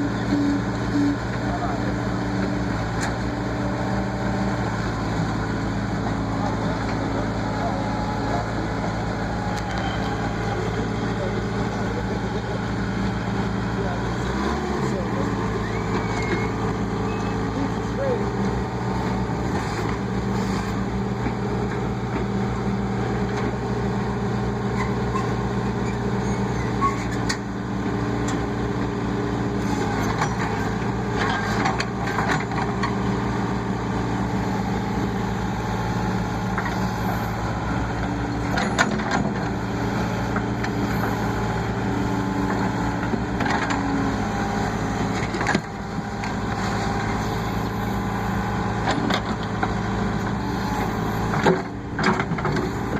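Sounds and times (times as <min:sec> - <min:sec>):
diesel engine under load: 0:00.0 - 0:52.9.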